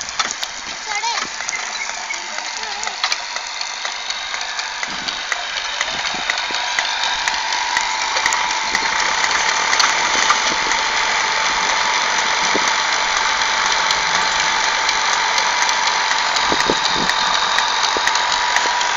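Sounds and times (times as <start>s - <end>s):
machinery running: 0.0s - 18.9s.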